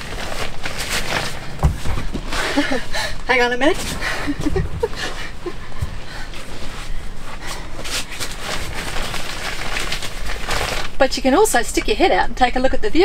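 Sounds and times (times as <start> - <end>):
rustling and shuffling: 0.0 - 12.1.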